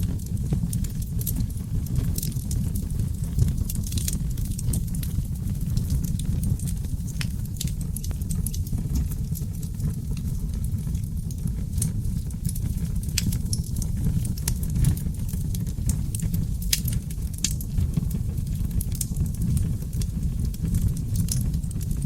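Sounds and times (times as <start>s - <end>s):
fire crackles and pops: 0.0s - 22.0s
flames rushing: 0.0s - 22.0s.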